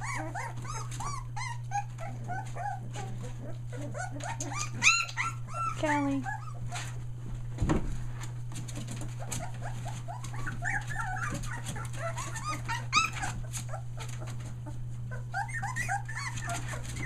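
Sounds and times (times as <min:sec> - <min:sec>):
puppy yelping: 0:00.0 - 0:06.9, 0:09.1 - 0:17.0
puppies whimpering and crying: 0:00.0 - 0:07.2, 0:08.8 - 0:17.0.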